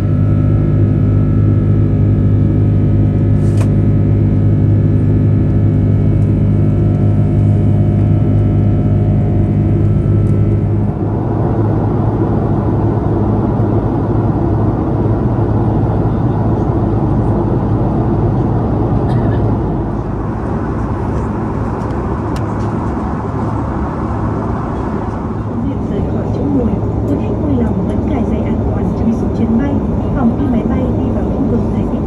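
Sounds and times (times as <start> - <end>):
airplane cabin jet engine hum: 0.0 - 32.0.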